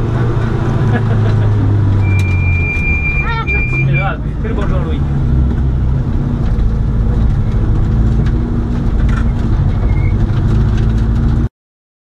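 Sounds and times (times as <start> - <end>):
car engine running at low revs: 0.0 - 11.5.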